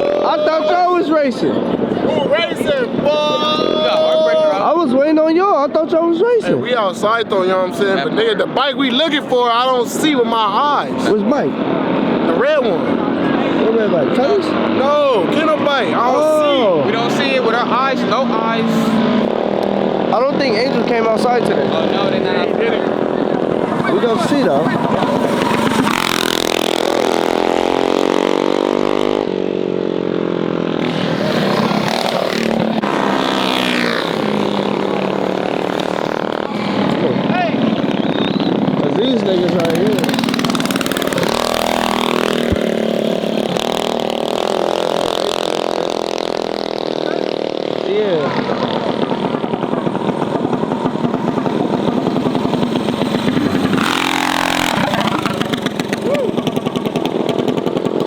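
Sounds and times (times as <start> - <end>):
mini bike engines revving: 0.0 - 58.0.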